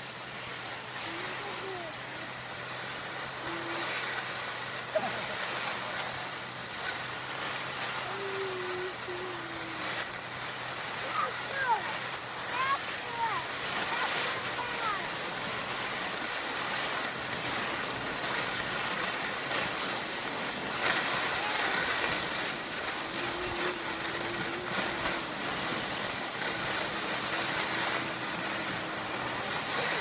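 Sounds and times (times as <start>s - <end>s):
skis sliding over snow: 0.0s - 30.0s.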